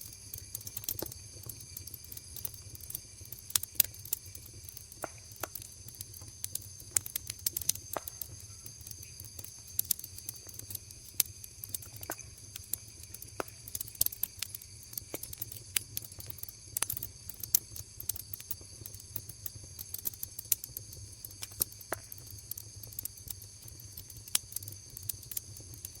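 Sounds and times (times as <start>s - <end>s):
crickets chirping: 0.0s - 26.0s
wood fire crackling and popping: 0.0s - 26.0s.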